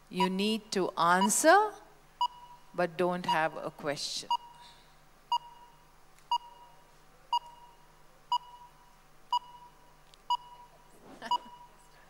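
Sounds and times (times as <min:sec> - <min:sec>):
countdown timer beeping: 0:00.2 - 0:03.7, 0:04.3 - 0:04.6, 0:05.3 - 0:11.8.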